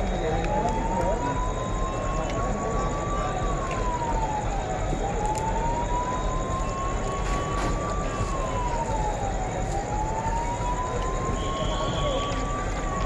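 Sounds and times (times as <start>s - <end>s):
emergency vehicle siren wailing: 0.0s - 13.0s
street and crowd noise: 0.0s - 13.0s.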